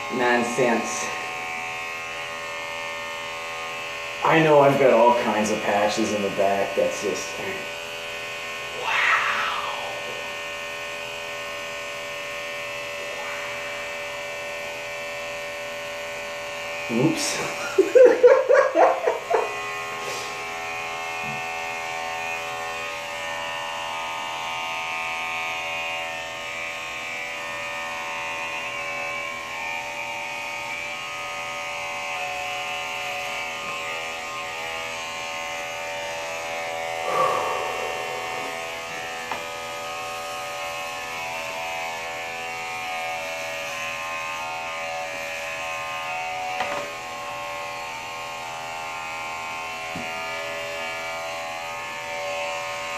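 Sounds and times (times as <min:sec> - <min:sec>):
electric hair clippers buzzing: 0:00.0 - 0:08.8, 0:09.6 - 0:52.9.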